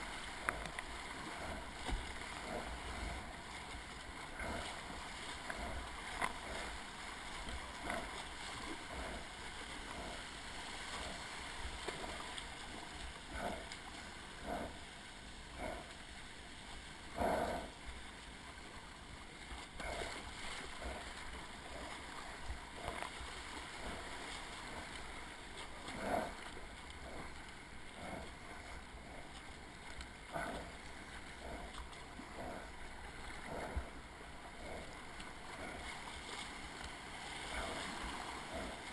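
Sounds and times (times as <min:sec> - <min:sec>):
paddle splashes: 0:00.0 - 0:38.9
rushing river water: 0:00.0 - 0:38.9.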